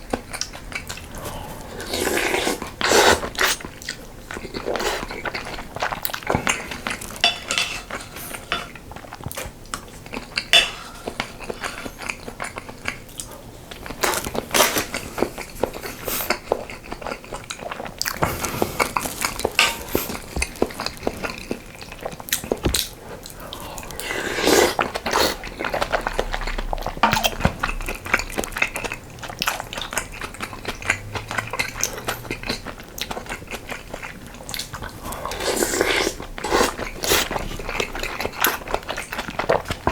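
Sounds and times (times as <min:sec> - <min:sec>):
chewing: 0:00.0 - 0:39.9.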